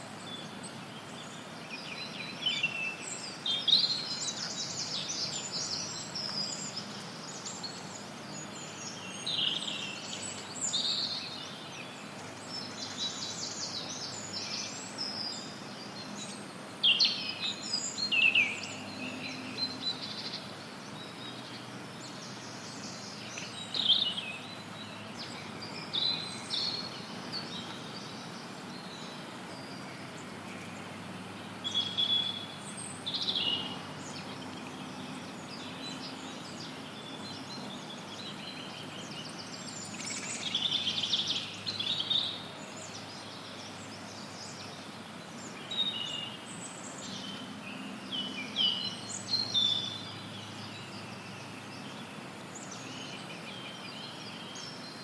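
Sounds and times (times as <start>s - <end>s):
songbirds chirping and trilling: 0.0s - 55.0s
white noise hiss: 0.0s - 55.0s.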